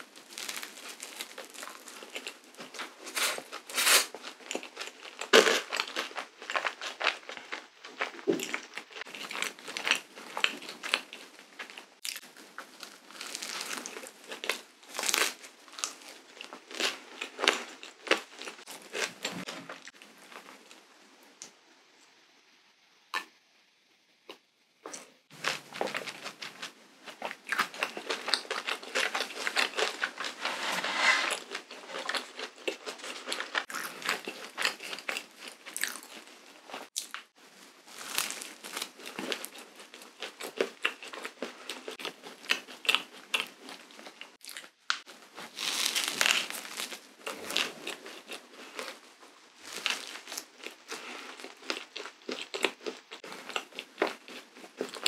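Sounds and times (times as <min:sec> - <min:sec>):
crunchy chewing: 0:00.0 - 0:20.8, 0:24.3 - 0:55.0.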